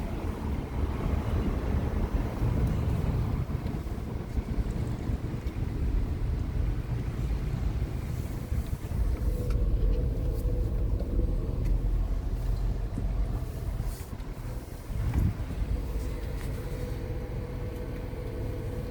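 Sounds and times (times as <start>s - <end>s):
car rumbling on the move: 0.0s - 18.9s.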